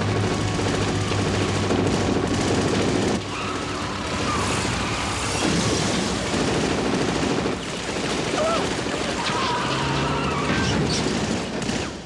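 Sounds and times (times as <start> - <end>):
machine guns firing: 0.0 - 12.0.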